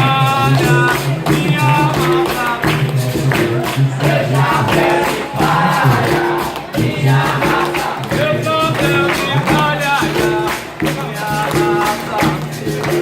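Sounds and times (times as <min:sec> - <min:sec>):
pandeiro and berimbau rhythm: 0:00.0 - 0:13.0
voices singing: 0:00.0 - 0:13.0
group answering in chorus: 0:01.5 - 0:13.0.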